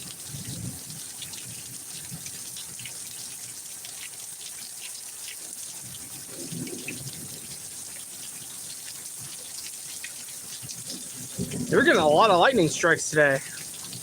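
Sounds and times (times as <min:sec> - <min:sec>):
drips and splashes: 0:00.0 - 0:14.0
hiss of heavy rain: 0:00.0 - 0:14.0.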